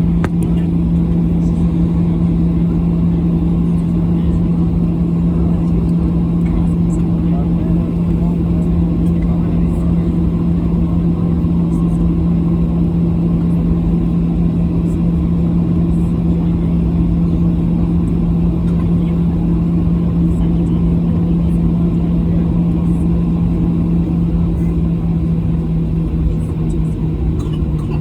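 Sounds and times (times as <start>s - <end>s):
constant low hum: 0.0s - 28.0s
jet engine and airflow rumble: 0.0s - 28.0s.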